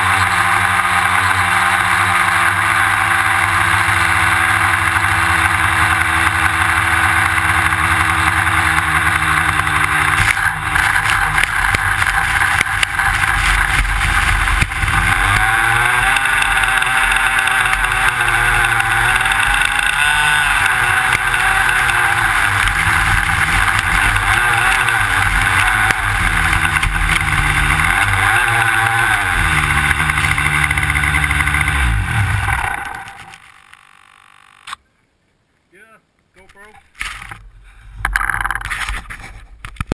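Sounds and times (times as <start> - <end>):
model plane engine running: 0.0 - 34.7.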